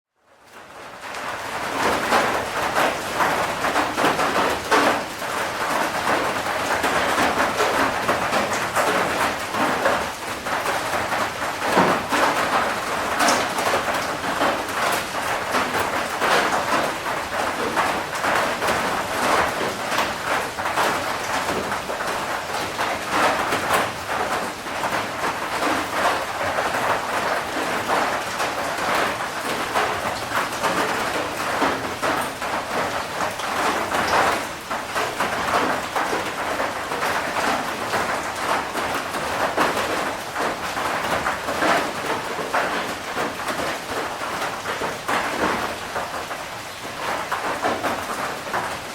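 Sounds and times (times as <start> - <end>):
heavy rain falling: 0.2 - 48.9.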